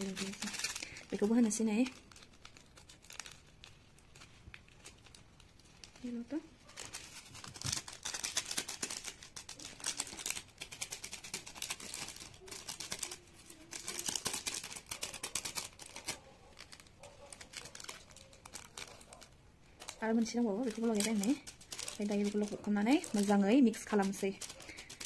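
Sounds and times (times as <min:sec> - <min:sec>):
plastic sachet crinkling: 0:00.0 - 0:25.0.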